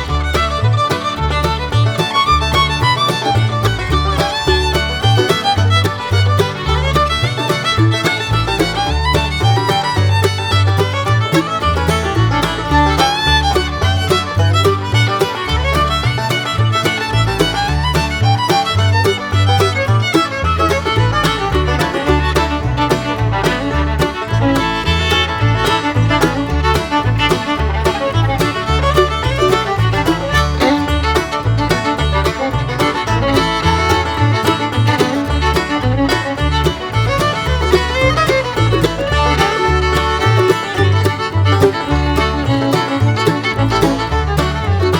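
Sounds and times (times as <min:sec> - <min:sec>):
upbeat bluegrass instrumental: 0:00.0 - 0:44.9.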